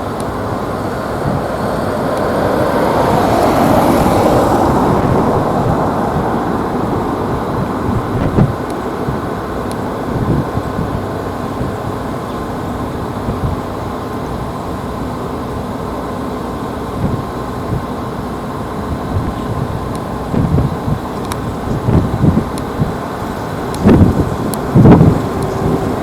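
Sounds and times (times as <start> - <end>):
faint steady whine: 0.0 - 26.0
jet engine noise: 0.0 - 26.0
wind buffeting microphone: 0.0 - 26.0.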